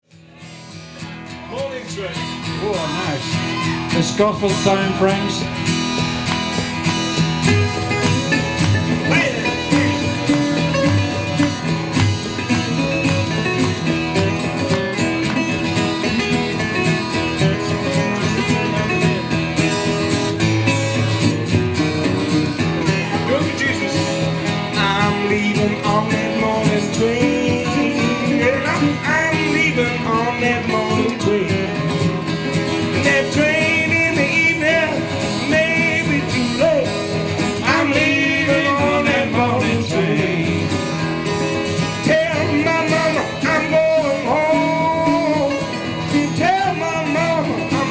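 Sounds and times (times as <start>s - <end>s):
acoustic guitars strumming: 0.1s - 47.9s.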